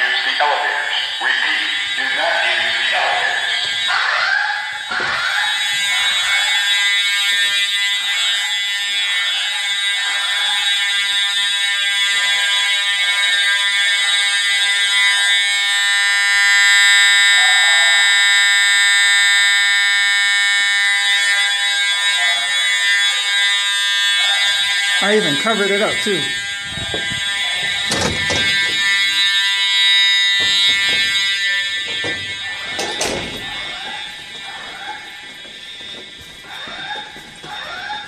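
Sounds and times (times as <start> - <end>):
fire alarm buzzing: 0.0 - 38.0.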